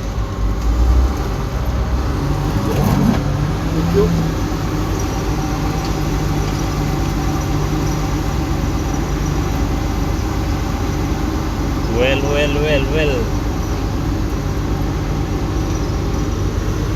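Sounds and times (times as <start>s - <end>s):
bulldozer diesel engine running: 0.0s - 16.9s.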